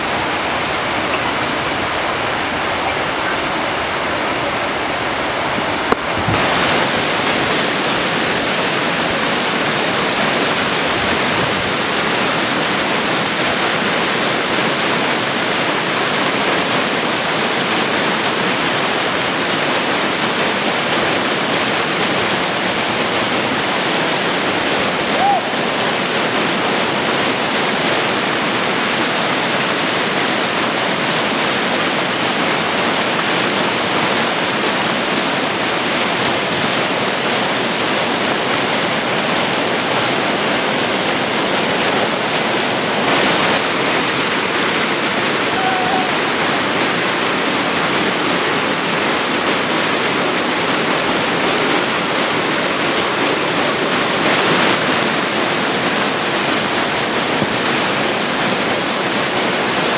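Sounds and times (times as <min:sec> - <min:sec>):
water rushing over a weir: 0:00.0 - 0:59.9.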